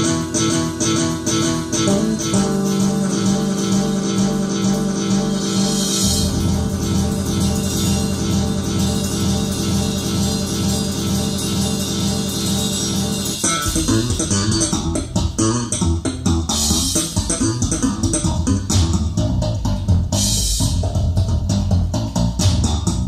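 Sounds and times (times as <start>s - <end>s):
guitar music over loudspeakers: 0.0s - 20.1s
low bass line: 0.0s - 23.0s.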